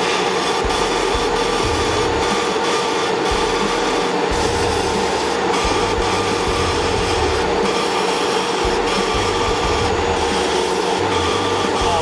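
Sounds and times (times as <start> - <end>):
constant mid-pitched tone: 0.0 - 12.0
laser engraver hissing and humming: 0.0 - 12.0.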